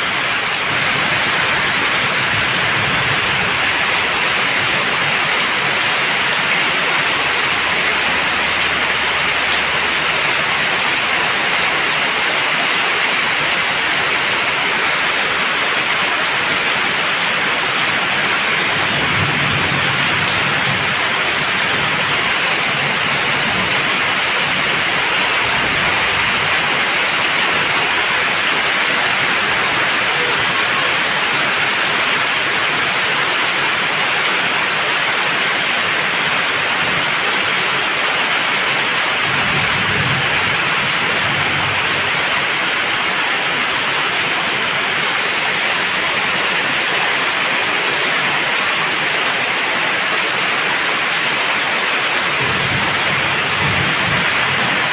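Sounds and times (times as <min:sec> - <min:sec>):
heavy rain on wet pavement: 0:00.0 - 0:54.9.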